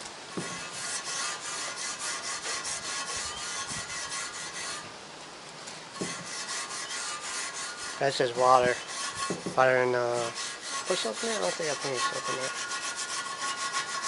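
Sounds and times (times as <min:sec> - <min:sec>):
steel wool scrubbing metal: 0:00.0 - 0:04.9, 0:06.0 - 0:14.0.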